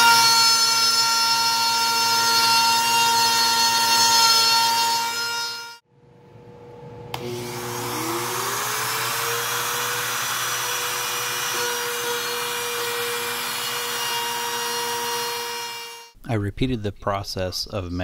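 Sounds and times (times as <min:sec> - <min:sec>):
router whining: 0:00.0 - 0:05.8, 0:07.1 - 0:16.2.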